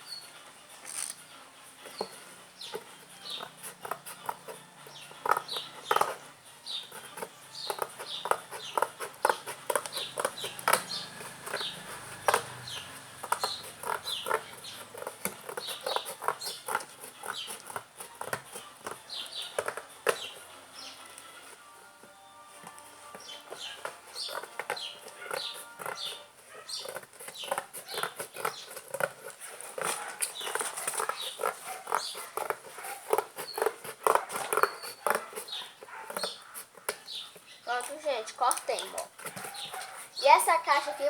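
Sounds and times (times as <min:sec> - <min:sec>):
blade cutting cardboard: 0:01.8 - 0:21.7, 0:22.6 - 0:37.5, 0:39.0 - 0:40.3.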